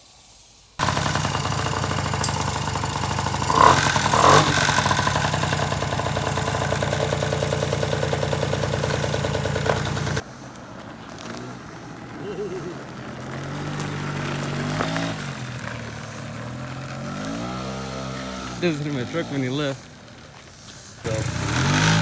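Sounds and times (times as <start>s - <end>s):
scooter engine running: 0.8s - 10.2s, 11.1s - 22.0s.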